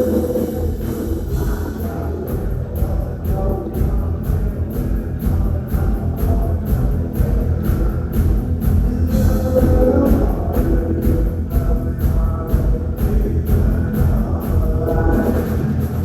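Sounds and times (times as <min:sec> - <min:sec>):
drum kit hits: 0:00.0 - 0:16.0
guitar: 0:00.0 - 0:16.0
rock band playing: 0:00.0 - 0:16.0.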